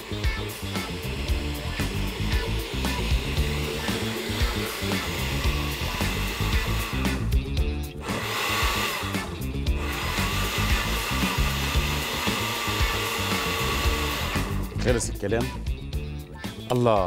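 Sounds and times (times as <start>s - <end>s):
electric blender running: 0.0s - 15.1s
background music: 0.0s - 17.0s.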